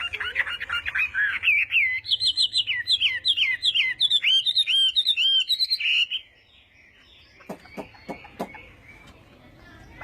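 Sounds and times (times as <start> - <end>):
bird singing whistled notes: 1.2 - 9.3.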